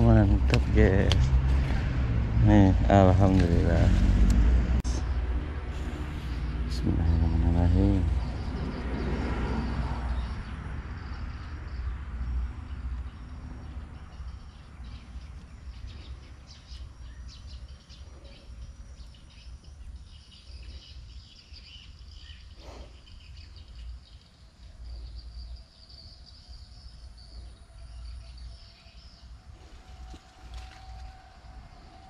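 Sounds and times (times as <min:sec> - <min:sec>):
birds chirping: 0:00.0 - 0:32.0
insects buzzing: 0:00.0 - 0:32.0.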